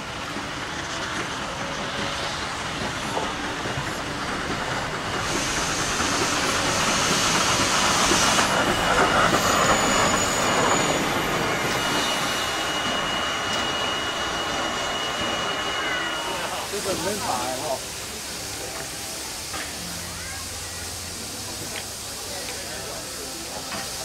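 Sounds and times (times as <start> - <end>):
steam locomotive rolling past: 0.0 - 24.0
high steady squeal: 0.6 - 23.7.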